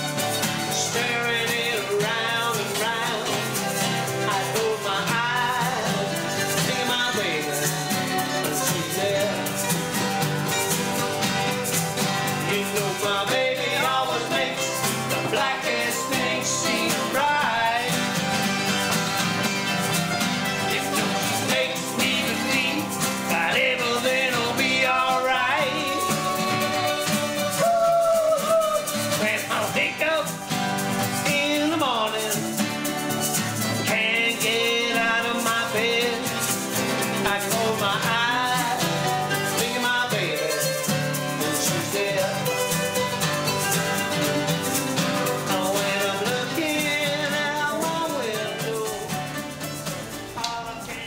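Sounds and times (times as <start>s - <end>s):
acoustic guitars strummed: 0.0s - 51.0s
mandolin strummed: 0.0s - 51.0s
person singing: 0.0s - 51.0s.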